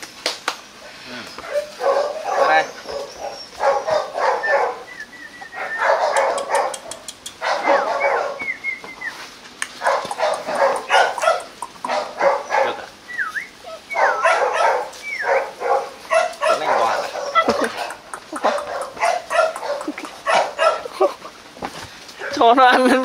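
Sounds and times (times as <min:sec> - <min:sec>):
puppies whining: 0:01.3 - 0:21.1
puppies yapping: 0:01.3 - 0:21.4.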